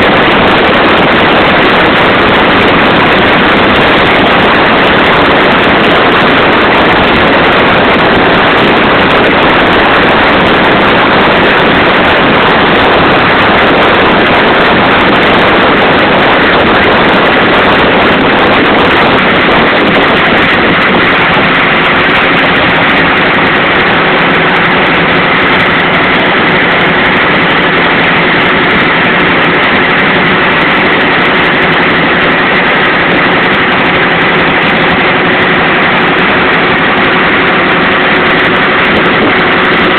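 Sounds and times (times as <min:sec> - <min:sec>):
boat engine running: 0:00.0 - 0:39.9
loud rushing noise: 0:00.0 - 0:39.9.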